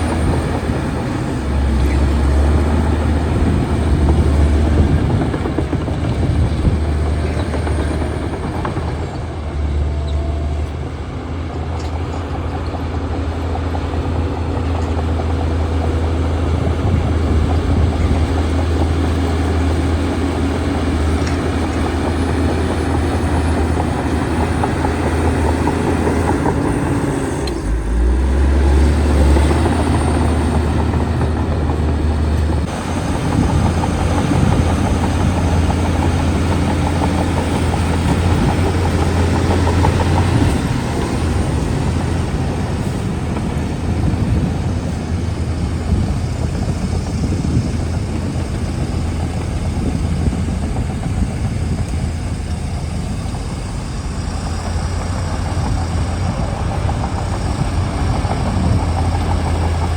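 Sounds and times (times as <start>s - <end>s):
continuous clattering: 0.0s - 59.9s
heavy diesel engine running: 0.0s - 59.9s.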